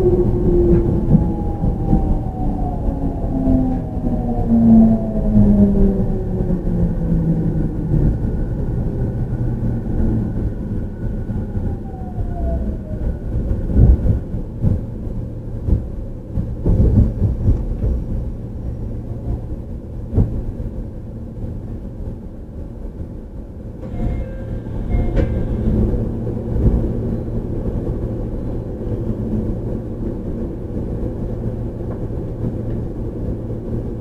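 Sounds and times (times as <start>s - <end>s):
train rolling rumble: 0.0s - 34.0s.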